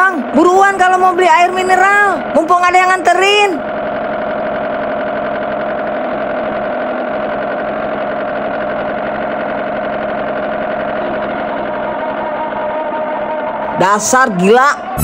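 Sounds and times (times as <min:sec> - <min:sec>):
scooter engine idling: 0:00.0 - 0:14.1.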